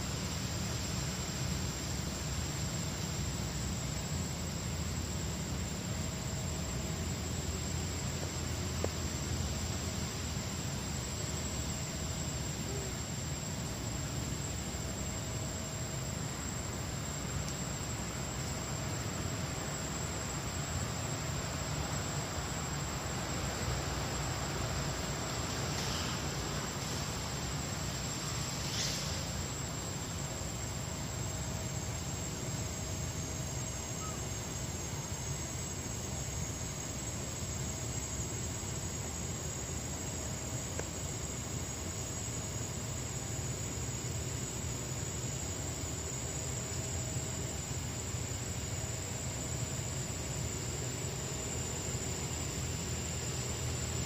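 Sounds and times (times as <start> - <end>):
forest background hiss: 0.0 - 54.0
high-pitched insect drone: 0.0 - 54.0.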